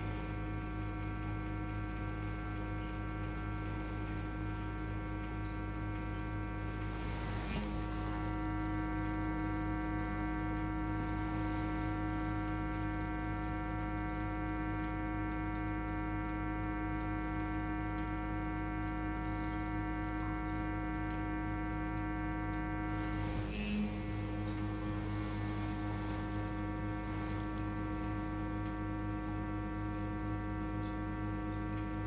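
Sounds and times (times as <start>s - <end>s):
vibrating device humming: 0.0s - 32.0s.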